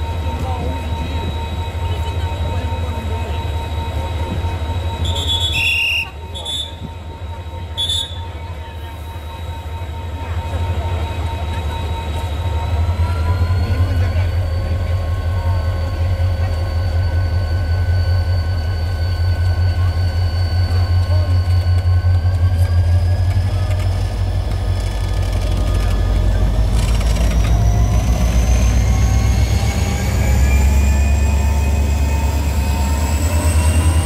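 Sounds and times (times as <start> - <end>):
diesel locomotive engine rumbling: 0.0 - 34.0
steady whines: 0.0 - 34.0.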